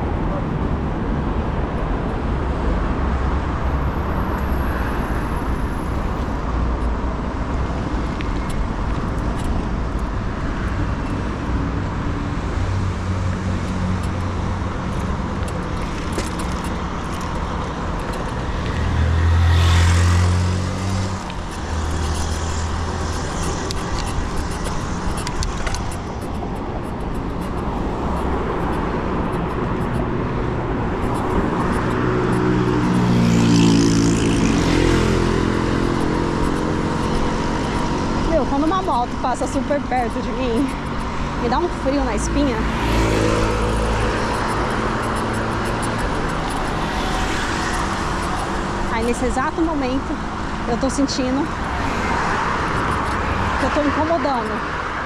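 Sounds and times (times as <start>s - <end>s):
heavy vehicle engine hum: 0.0s - 55.0s
road traffic rumble: 0.0s - 55.0s.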